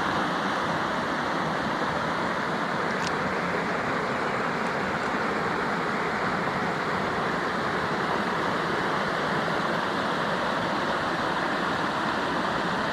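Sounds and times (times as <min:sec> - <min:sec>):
river rushing over rocks: 0:00.0 - 0:12.9.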